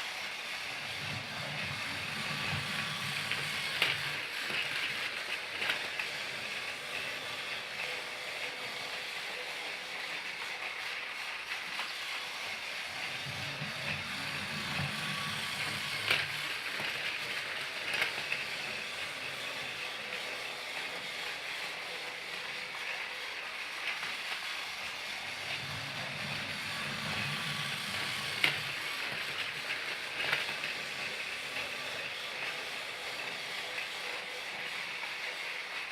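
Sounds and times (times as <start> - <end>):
toy train whirring: 0.0 - 35.9.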